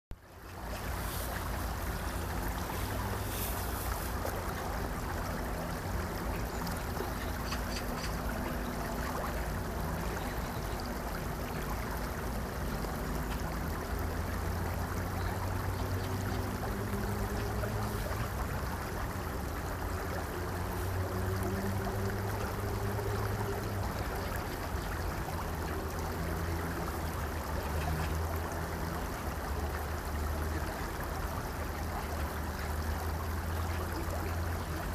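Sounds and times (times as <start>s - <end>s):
low continuous hum: 0.2s - 34.9s
stream flowing over rocks: 0.2s - 34.9s.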